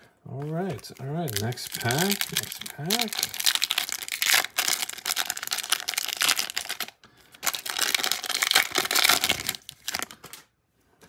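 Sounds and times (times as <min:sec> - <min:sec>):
foil wrapper crinkling: 0:00.4 - 0:10.5.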